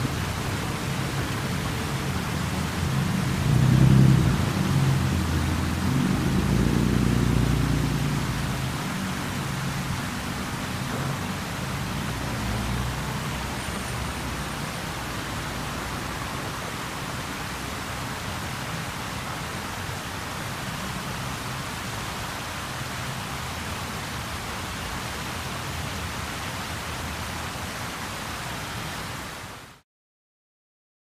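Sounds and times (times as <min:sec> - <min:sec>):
road traffic rumble: 0:00.0 - 0:29.5
fountain water splashing: 0:00.0 - 0:29.8.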